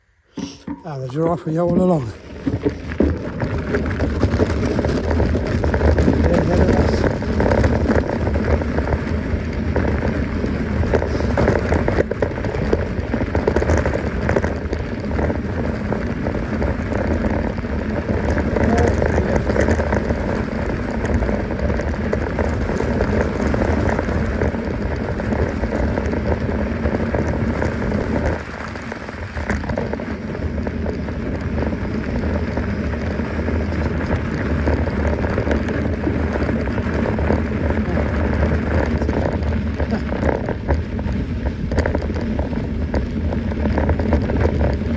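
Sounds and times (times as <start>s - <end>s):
bike tyres on rough trail: 0.0s - 44.9s
small rattles: 0.2s - 44.9s.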